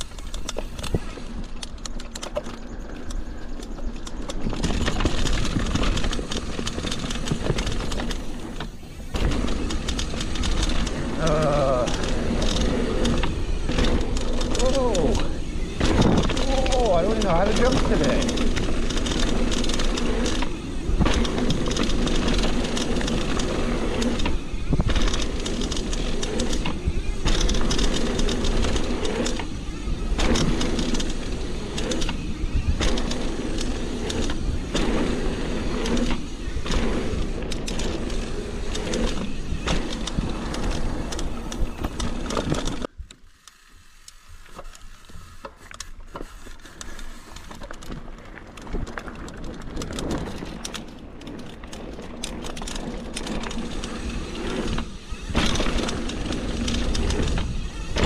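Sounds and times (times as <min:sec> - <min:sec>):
bike clicks and rattles: 0:00.0 - 0:58.0
bike tyres rumbling: 0:00.0 - 0:58.0
wind rushing over microphone: 0:04.3 - 0:42.9, 0:48.0 - 0:58.0.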